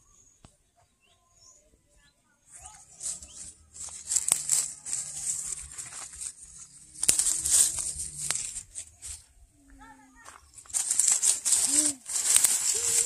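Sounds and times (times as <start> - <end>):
leaves and branches rustling: 2.5 - 13.0.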